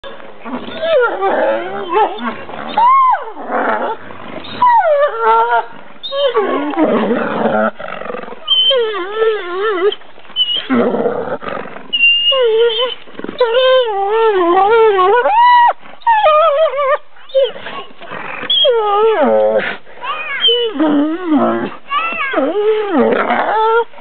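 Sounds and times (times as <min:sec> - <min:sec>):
wolves snarling and growling: 0:00.0 - 0:24.0
wolves whining: 0:00.0 - 0:24.0.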